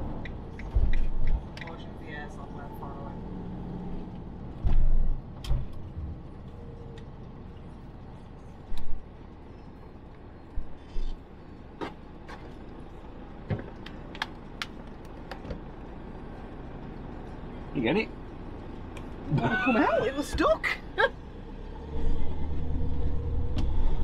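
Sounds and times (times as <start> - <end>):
engine running low and steady: 0.0 - 24.0.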